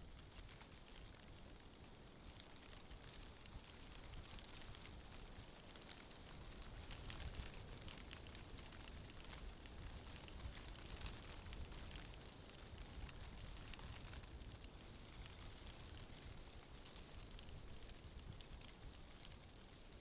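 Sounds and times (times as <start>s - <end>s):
leaves and branches rustling: 0.1s - 20.0s.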